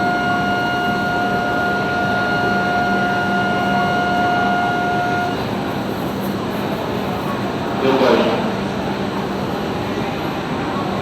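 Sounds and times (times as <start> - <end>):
station platform hum: 0.0 - 11.0.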